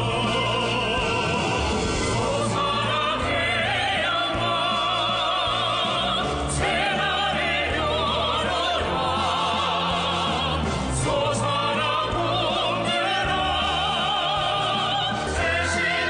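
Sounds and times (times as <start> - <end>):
operatic singing: 0.0 - 16.0
orchestral accompaniment: 0.0 - 16.0.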